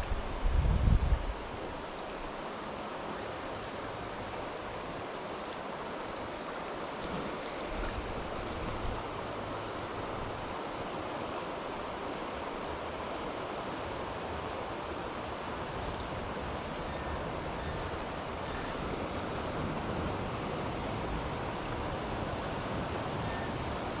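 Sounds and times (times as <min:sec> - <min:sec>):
river water flowing over rocks: 0:01.1 - 0:24.0.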